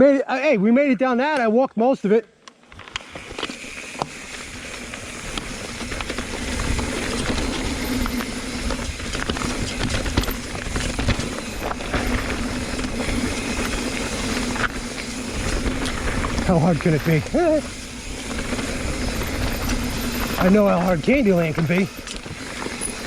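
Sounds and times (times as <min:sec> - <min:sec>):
bike tyres on dirt trail: 0:02.6 - 0:23.0
bike rattling over rocks: 0:02.7 - 0:23.0.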